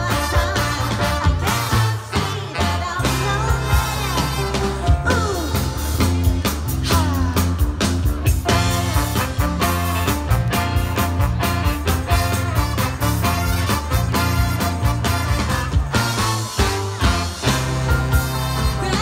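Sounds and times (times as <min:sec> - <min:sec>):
live soul band playing: 0:00.0 - 0:19.0.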